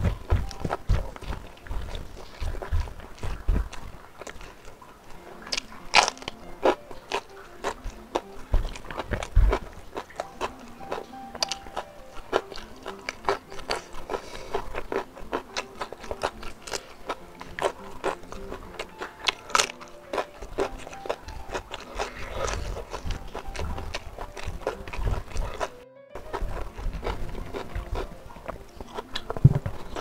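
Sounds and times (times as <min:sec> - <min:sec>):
crunches and mouth clicks: 0:00.0 - 0:30.0
faint music: 0:00.0 - 0:30.0
wet chewing: 0:00.0 - 0:30.0.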